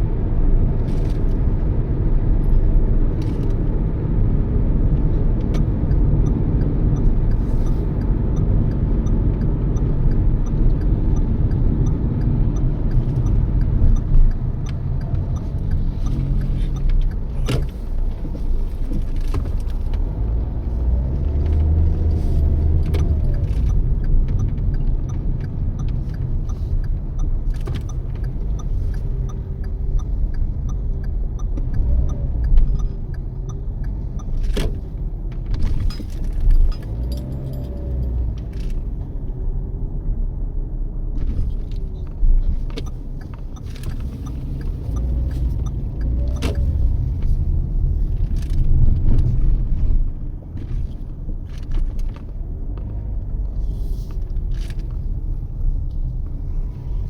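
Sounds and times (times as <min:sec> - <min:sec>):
car cabin road and engine rumble: 0:00.0 - 0:57.0.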